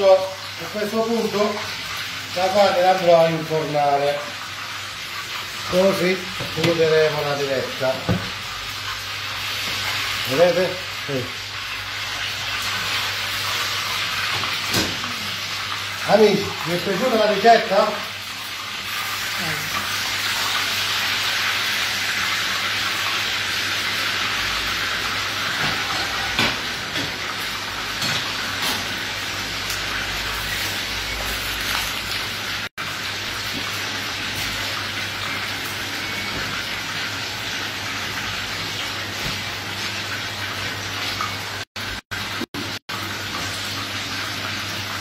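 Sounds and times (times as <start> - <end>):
oil sizzling in frying pan: 0.0 - 45.0.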